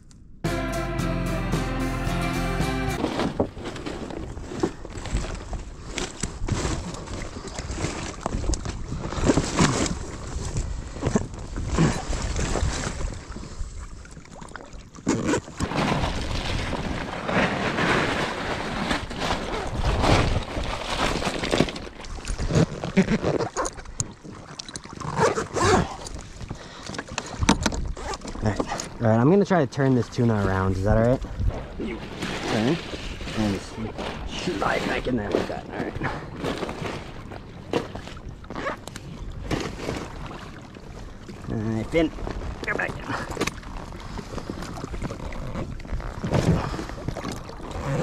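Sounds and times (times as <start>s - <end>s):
water splashing against kayak hull: 3.0s - 29.1s, 30.0s - 48.0s.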